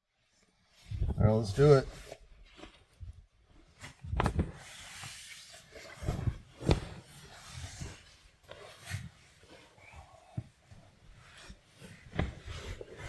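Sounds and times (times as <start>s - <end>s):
sleeping bag rustling: 2.0s - 13.0s.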